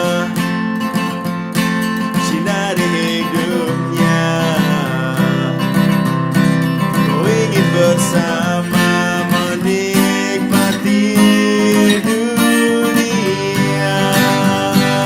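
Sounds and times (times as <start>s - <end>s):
sliding lead guitar note: 0.0s - 15.0s
strummed guitar chords: 0.0s - 15.0s.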